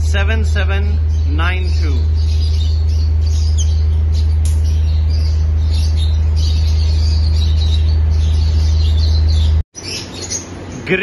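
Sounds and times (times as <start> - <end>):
loud steady low hum: 0.0 - 11.0
lovebirds chirping: 0.0 - 11.0.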